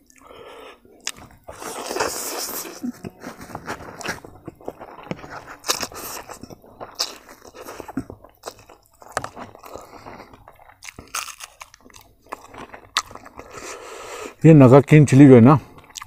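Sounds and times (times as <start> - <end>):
person chewing noodles: 0.0 - 14.4, 15.6 - 16.0.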